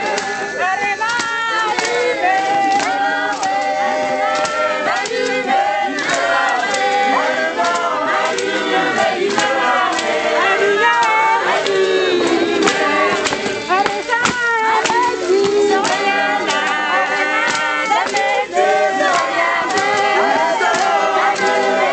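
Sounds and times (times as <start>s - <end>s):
choir singing: 0.0s - 21.9s
percussive strokes: 0.0s - 21.9s.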